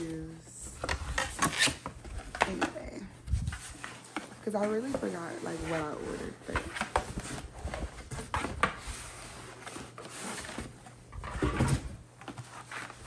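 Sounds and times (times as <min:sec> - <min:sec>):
cardboard rustling and scraping: 0:00.0 - 0:13.0.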